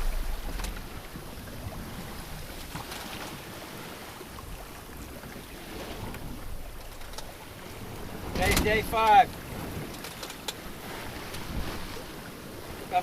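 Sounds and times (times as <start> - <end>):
water washing along hull: 0.0 - 13.0
wind on microphone: 0.0 - 13.0.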